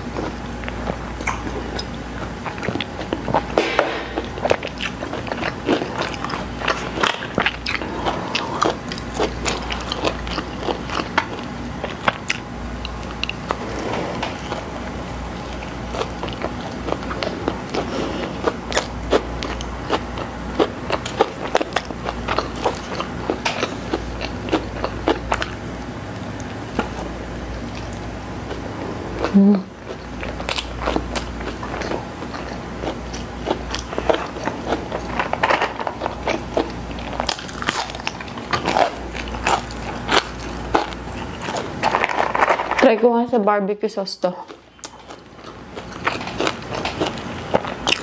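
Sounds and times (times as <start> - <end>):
chewing and biting: 0.0 - 13.6, 14.3 - 28.6, 29.2 - 42.8, 44.5 - 48.0.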